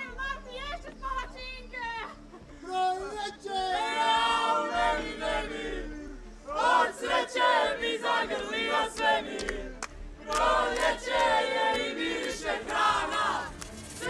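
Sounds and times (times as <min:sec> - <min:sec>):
people chanting and cheering: 0:02.6 - 0:14.0.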